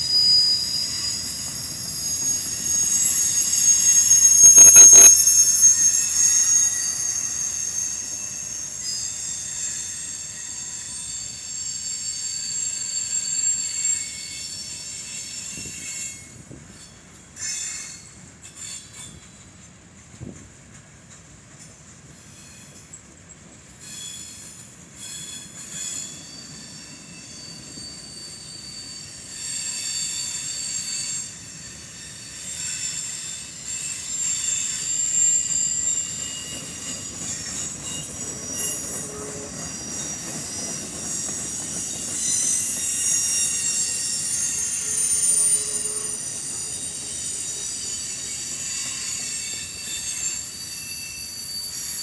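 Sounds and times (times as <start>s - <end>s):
high-pitched wheel squeal: 0.0s - 19.4s, 23.8s - 52.0s
wheels rumbling on rail: 0.0s - 52.0s.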